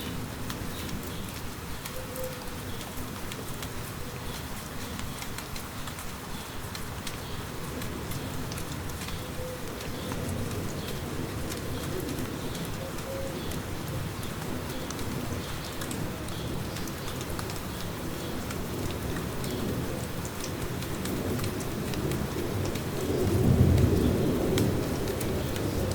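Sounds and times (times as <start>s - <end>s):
light rain: 0.0s - 25.9s.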